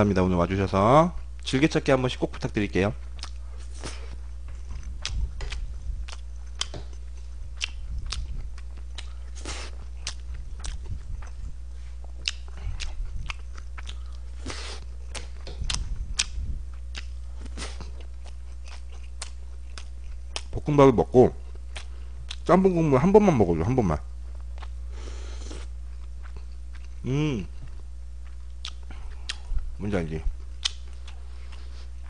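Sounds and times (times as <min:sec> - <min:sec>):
low hum: 0:00.0 - 0:32.0
person chewing food: 0:03.0 - 0:20.7, 0:21.4 - 0:22.5, 0:24.2 - 0:32.0.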